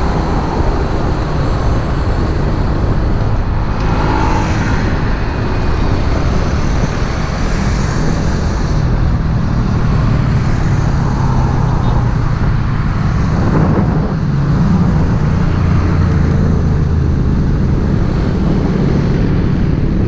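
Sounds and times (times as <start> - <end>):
road and wind noise: 0.0 - 20.0
surrounding traffic: 0.0 - 20.0.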